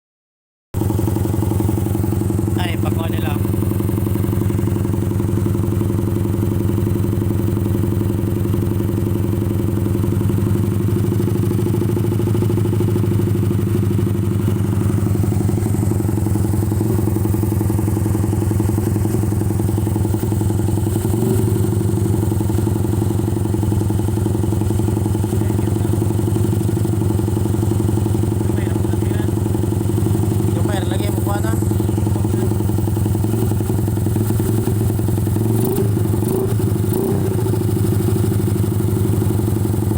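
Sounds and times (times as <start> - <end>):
motorcycle engine idling: 0.8 - 39.9.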